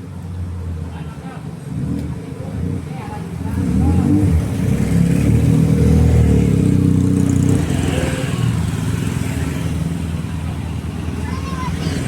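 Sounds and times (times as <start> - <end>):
street traffic hum: 0.0 - 12.0.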